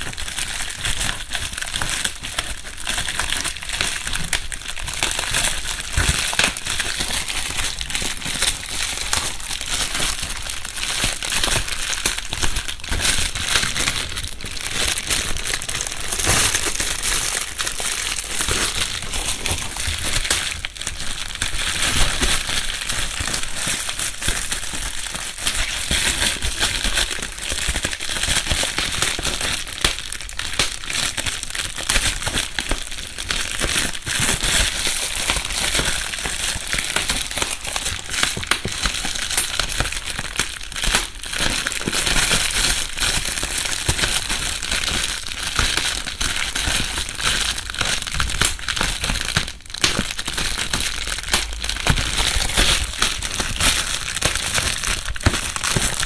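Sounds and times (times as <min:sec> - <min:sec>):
bubble wrap crumpling and popping: 0:00.0 - 0:56.0.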